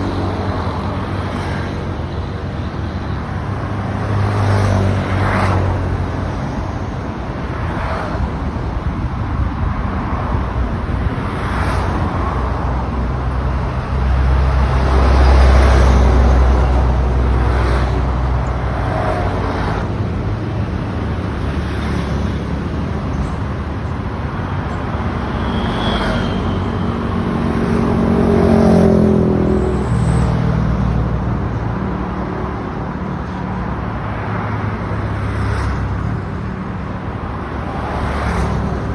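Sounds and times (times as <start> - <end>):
vehicle engines passing: 0.0 - 38.9.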